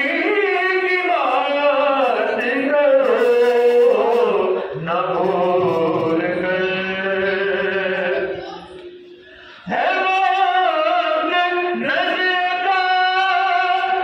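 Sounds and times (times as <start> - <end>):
men singing devotional chant: 0.0 - 8.5, 9.6 - 14.0.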